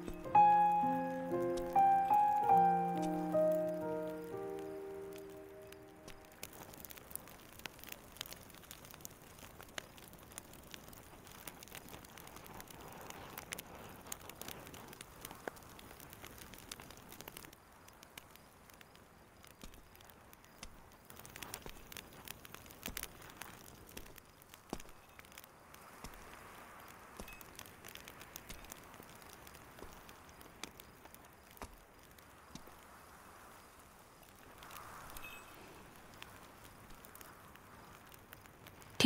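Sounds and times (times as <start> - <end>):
campfire crackling: 0.0 - 39.0
low hiss: 0.0 - 39.0.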